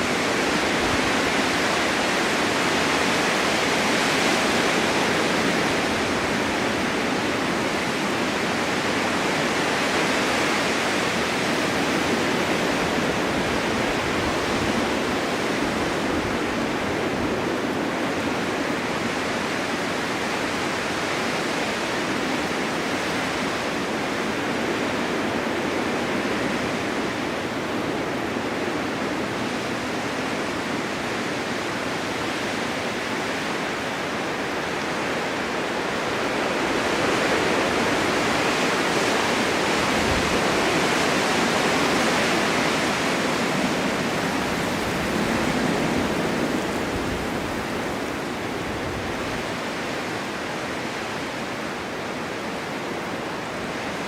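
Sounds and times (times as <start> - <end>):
blizzard wind rushing: 0.0 - 54.0.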